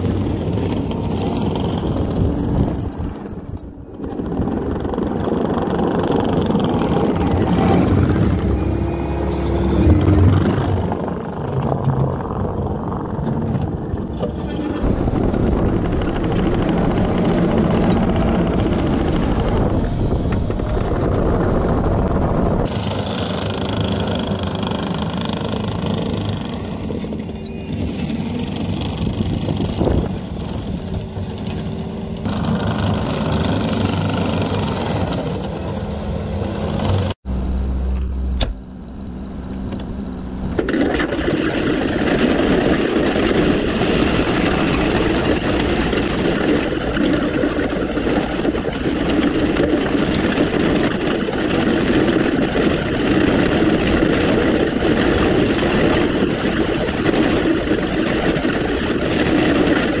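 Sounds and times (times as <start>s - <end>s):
dozer blade over gravel: 0.0s - 20.9s, 22.6s - 37.2s, 40.6s - 60.0s
track loader diesel engine: 0.0s - 60.0s.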